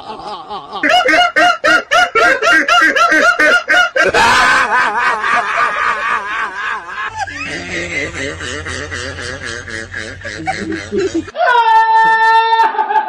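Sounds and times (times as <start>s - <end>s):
high-pitched laughter: 0.0s - 13.0s.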